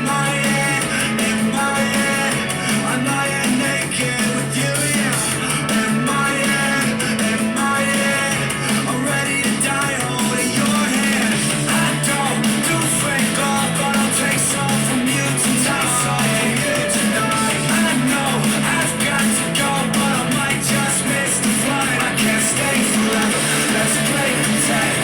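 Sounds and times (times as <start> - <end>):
electric guitar: 0.0 - 25.0
person singing: 0.0 - 25.0
pop-punk rock song: 0.0 - 25.0.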